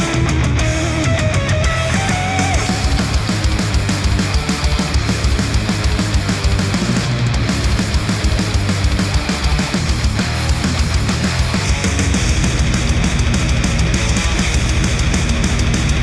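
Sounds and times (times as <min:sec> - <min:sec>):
rock music through headphones: 0:00.0 - 0:16.0.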